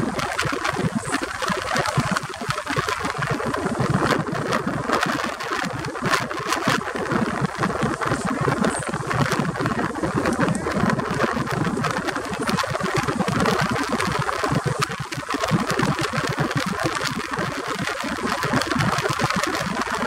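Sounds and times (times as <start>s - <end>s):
rushing water: 0.0s - 20.0s
wind rumble on microphone: 0.0s - 20.0s.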